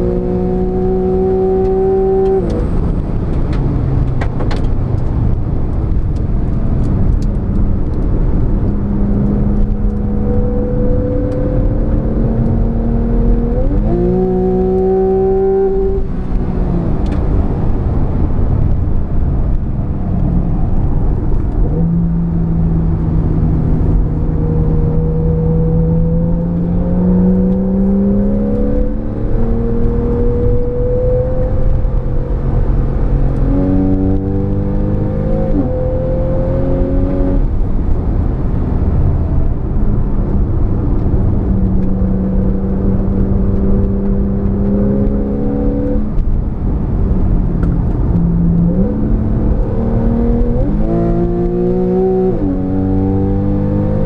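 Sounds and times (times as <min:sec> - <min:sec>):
car engine revving under acceleration: 0:00.0 - 0:54.0
road and tyre noise: 0:00.0 - 0:54.0.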